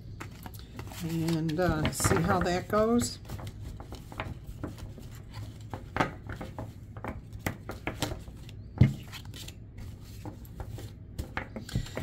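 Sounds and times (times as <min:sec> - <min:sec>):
cards being shuffled: 0:00.1 - 0:12.0.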